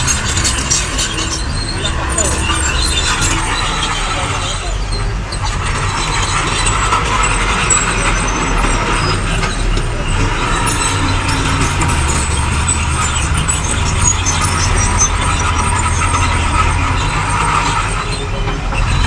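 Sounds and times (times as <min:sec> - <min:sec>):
faint high squeaks: 0:00.0 - 0:19.0
heavy machinery diesel engines droning: 0:00.0 - 0:19.0.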